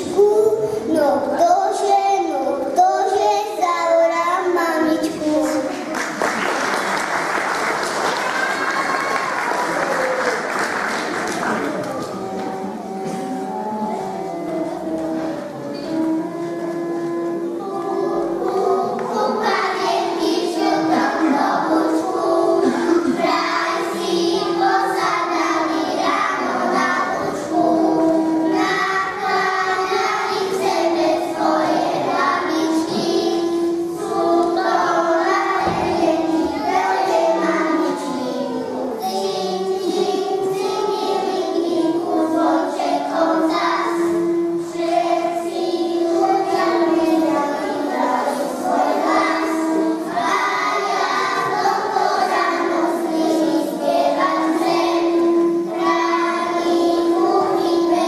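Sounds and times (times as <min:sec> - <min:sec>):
children singing: 0:00.0 - 0:16.3, 0:17.4 - 0:58.0.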